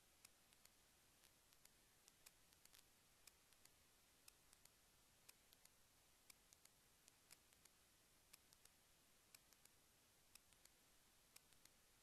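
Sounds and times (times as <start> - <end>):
faint sharp clicks: 0.0 - 12.0.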